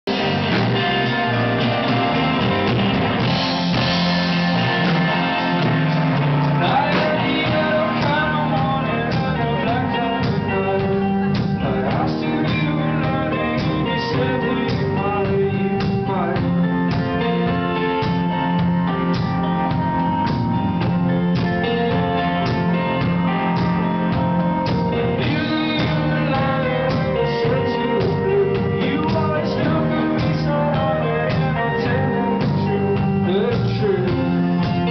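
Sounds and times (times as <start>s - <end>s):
guitar: 0.0s - 34.9s
live band playing: 0.0s - 34.9s.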